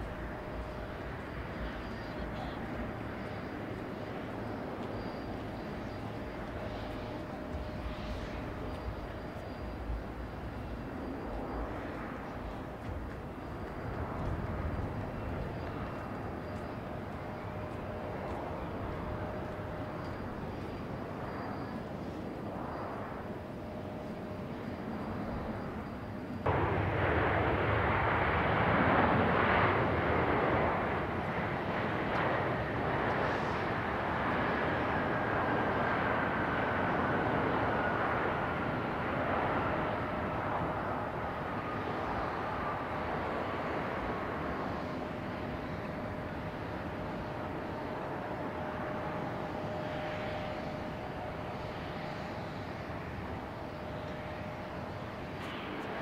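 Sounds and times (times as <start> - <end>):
jet engine rushing: 0.0 - 56.0
steady whine: 0.0 - 56.0
turbine whine falling in pitch: 0.0 - 56.0.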